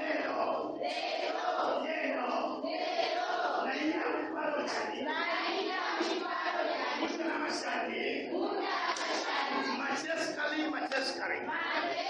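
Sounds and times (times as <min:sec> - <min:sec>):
congregation praying aloud: 0:00.0 - 0:12.0.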